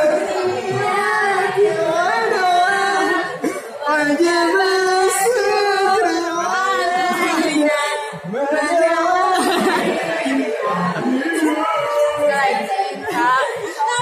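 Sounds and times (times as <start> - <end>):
people singing: 0.0 - 14.0.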